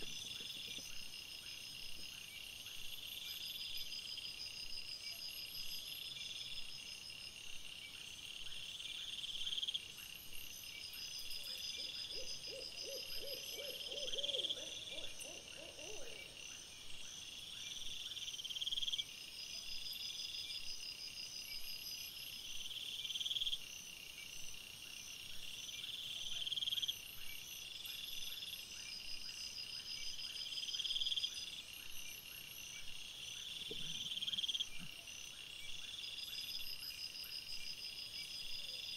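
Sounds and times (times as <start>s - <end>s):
crickets chirping: 0.0s - 38.9s
low pulsed insect calls: 0.0s - 38.9s.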